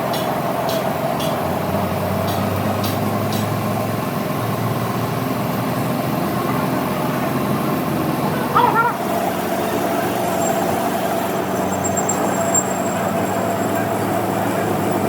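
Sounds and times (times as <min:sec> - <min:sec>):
motor running steadily: 0:00.0 - 0:15.0.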